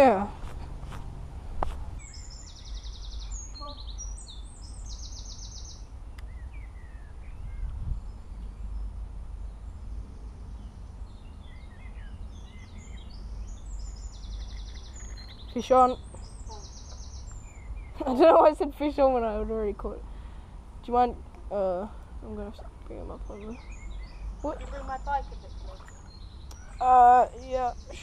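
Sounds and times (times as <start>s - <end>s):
steady low rumble: 0.0s - 28.0s
songbirds singing: 1.9s - 28.0s.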